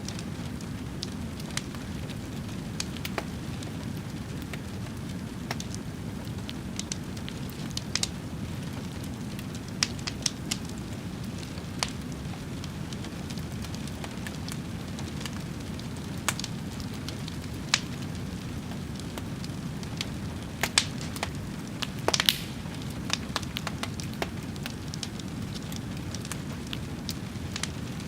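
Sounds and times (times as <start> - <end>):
fire rumbling: 0.0 - 28.0
wood crackling and popping: 0.0 - 28.0.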